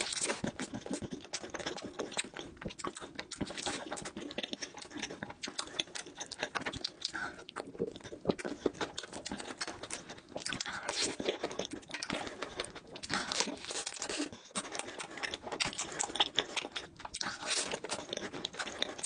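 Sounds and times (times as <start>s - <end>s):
close chewing with mouth clicks: 0.0s - 19.0s.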